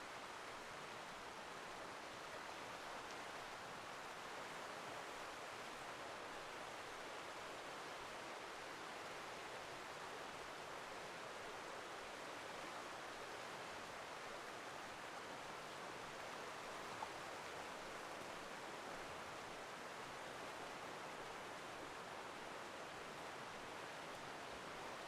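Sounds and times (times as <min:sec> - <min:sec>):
river rushing over small waterfalls: 0:00.0 - 0:25.0.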